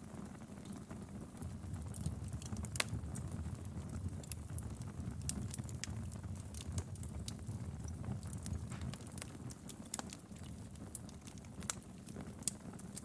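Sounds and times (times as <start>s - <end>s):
low rumble of flame: 0.0s - 13.0s
wood fire crackling: 0.0s - 13.0s.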